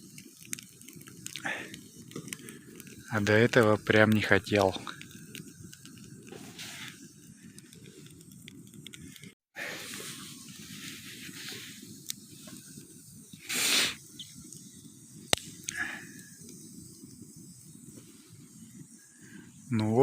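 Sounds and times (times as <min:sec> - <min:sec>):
campfire crackling and hissing: 0:00.0 - 0:20.0.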